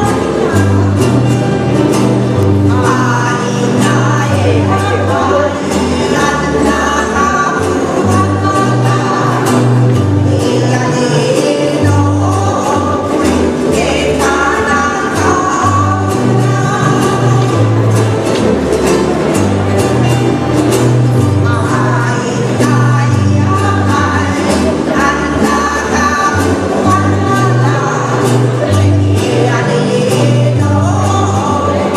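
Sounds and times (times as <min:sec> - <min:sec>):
women singing in chorus: 0:00.0 - 0:01.7, 0:02.5 - 0:18.4, 0:21.4 - 0:31.9
bass line: 0:00.0 - 0:31.9
ukuleles strumming: 0:00.0 - 0:31.9.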